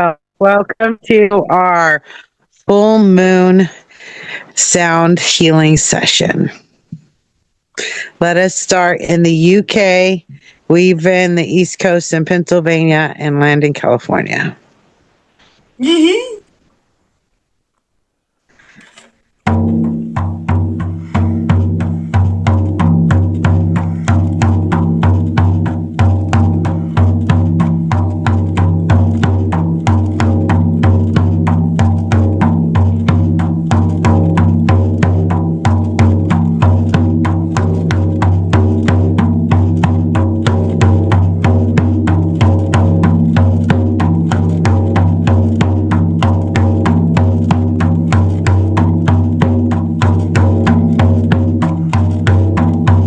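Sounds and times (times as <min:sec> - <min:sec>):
drum beaten fast: 0:00.9 - 0:06.5, 0:07.8 - 0:13.6, 0:19.4 - 0:53.0.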